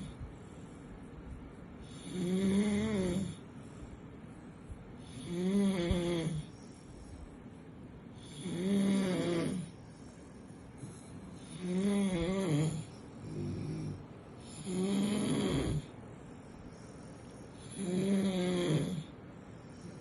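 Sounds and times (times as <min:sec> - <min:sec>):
puppy snoring: 0:00.0 - 0:07.3, 0:08.1 - 0:20.0
faint breathing: 0:00.0 - 0:20.0.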